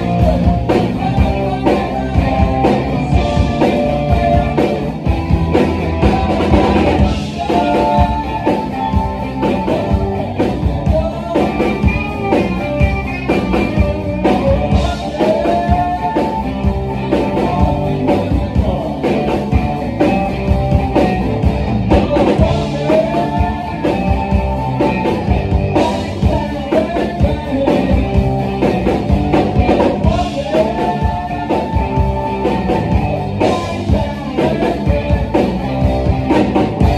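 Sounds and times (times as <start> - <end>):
bass guitar: 0.0 - 36.9
drum beat: 0.0 - 36.9
guitars: 0.0 - 36.9.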